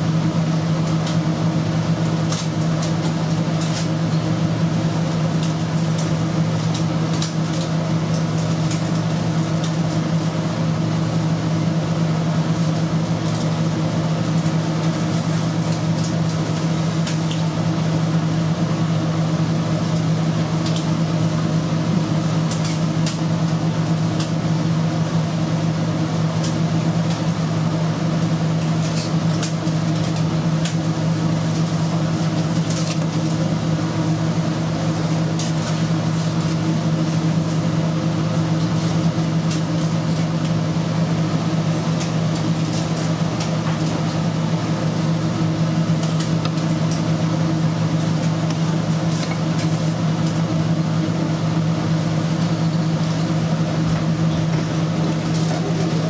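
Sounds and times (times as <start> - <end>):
kitchen machinery hum: 0.0 - 56.0.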